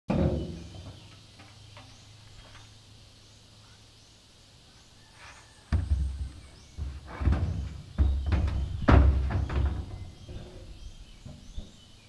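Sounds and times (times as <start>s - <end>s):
faint bird chirps: 0.3s - 12.0s.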